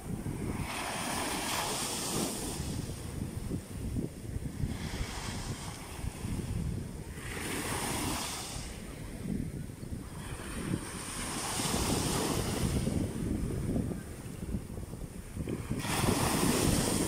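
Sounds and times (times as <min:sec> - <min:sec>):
sea waves washing up beach: 0:00.0 - 0:09.1, 0:10.0 - 0:17.0
wind rumble on microphone: 0:00.0 - 0:17.0.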